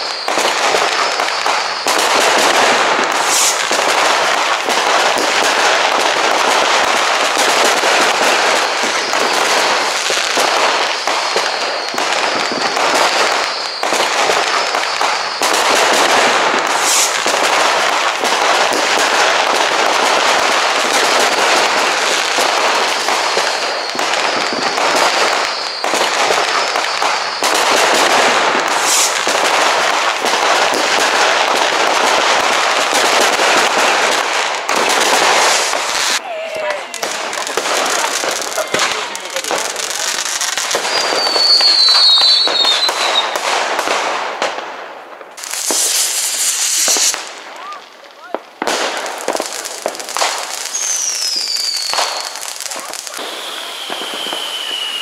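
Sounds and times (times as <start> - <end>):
fireworks cracking and banging: 0.0 - 55.0
high firework whistles: 0.0 - 55.0.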